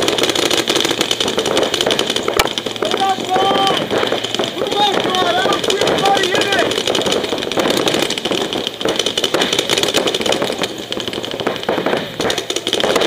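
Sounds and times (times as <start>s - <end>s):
paintball markers firing rapidly: 0.0s - 13.0s.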